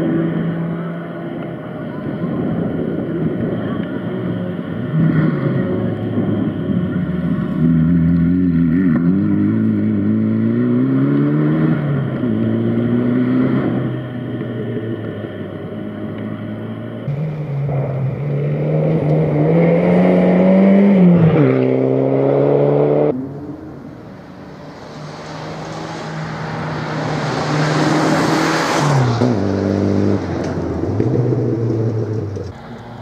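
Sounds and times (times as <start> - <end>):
rally car engine revving: 0.0 - 32.6.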